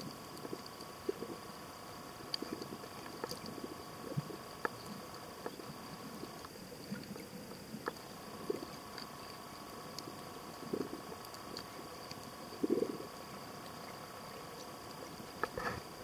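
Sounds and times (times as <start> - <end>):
faint underwater hiss: 0.0 - 16.0
thin steady whine: 0.0 - 16.0.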